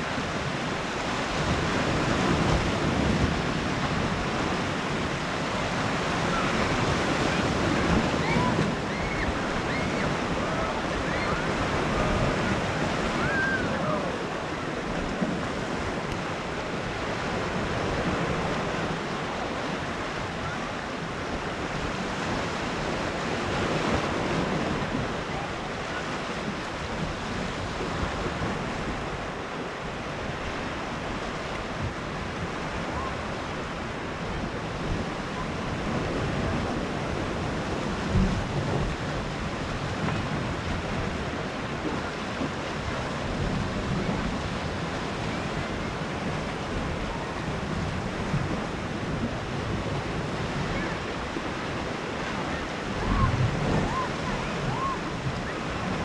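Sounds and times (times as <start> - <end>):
sea waves washing onto beach: 0.0 - 56.0.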